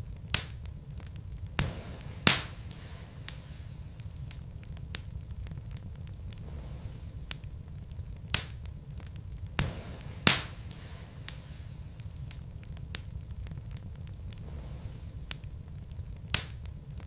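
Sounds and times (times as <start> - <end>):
logs popping: 0.0 - 17.0
wood fire burning: 0.0 - 17.0.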